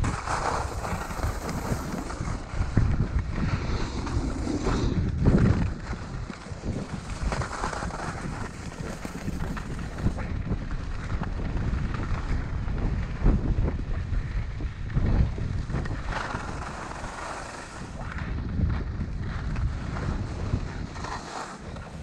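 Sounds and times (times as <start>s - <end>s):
skis scraping on snow: 0.0s - 22.0s
wind buffeting microphone: 0.0s - 22.0s.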